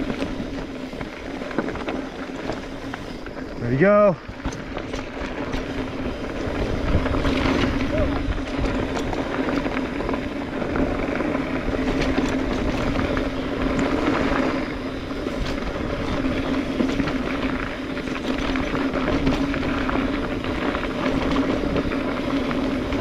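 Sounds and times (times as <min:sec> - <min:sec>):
bike clicks and rattles: 0:00.0 - 0:23.0
bike tyres on dirt trail: 0:00.0 - 0:23.0.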